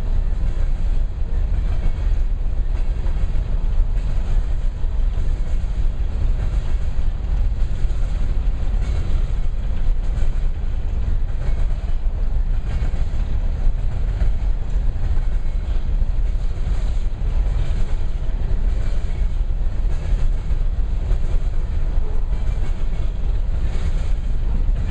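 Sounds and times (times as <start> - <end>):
train wheels rumbling on rails: 0.0 - 24.9.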